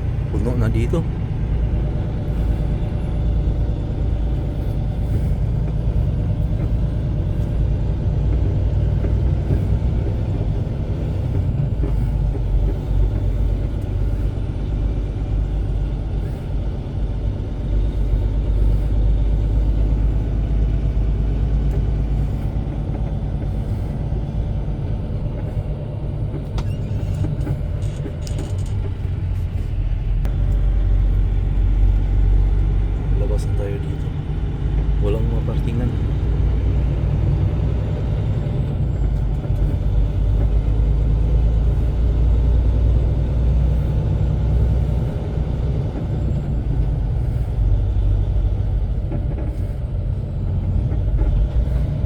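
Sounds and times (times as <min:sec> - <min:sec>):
truck diesel engine rumbling: 0:00.0 - 0:52.0.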